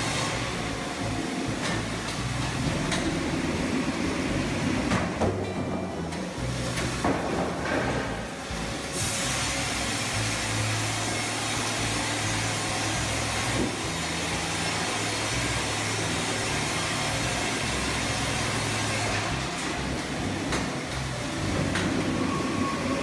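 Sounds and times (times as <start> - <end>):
heavy machinery running: 0.0 - 23.0.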